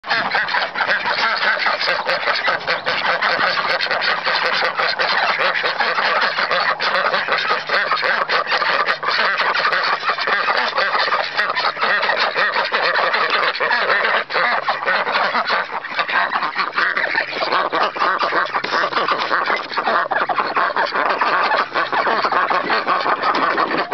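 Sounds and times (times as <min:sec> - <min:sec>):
ducks quacking: 0:00.0 - 0:23.9.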